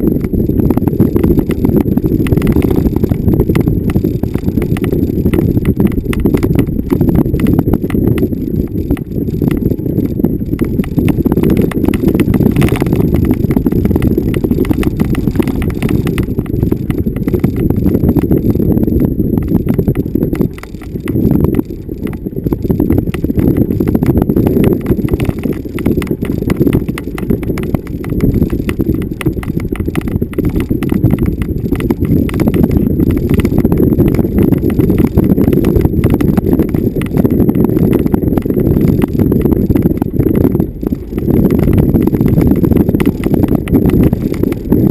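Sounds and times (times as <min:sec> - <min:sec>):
vehicle driving over bumpy ground: 0:00.0 - 0:44.9.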